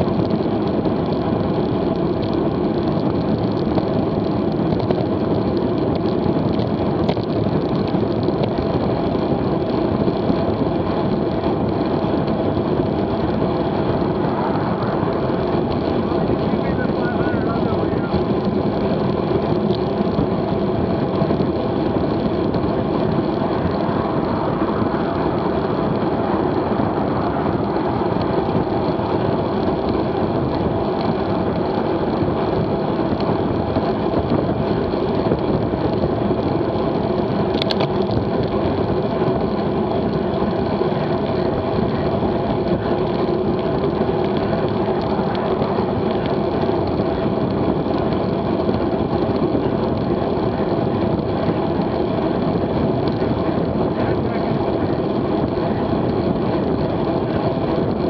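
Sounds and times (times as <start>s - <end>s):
tyre noise on asphalt: 0.0s - 58.0s
wind rushing over camera: 0.0s - 58.0s.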